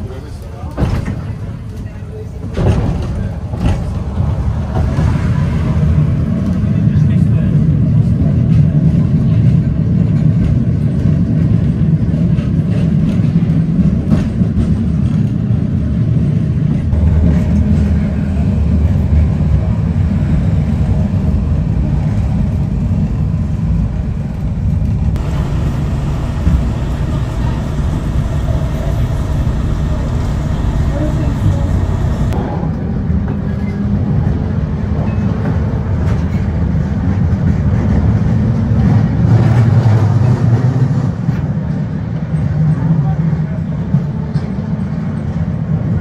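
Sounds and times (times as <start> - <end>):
tram rumbling on rails: 0.0 - 46.0.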